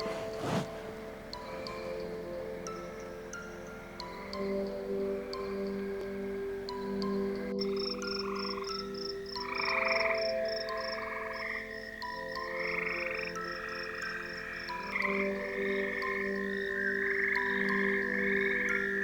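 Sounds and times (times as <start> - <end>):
frogs trilling: 1.0 - 19.0.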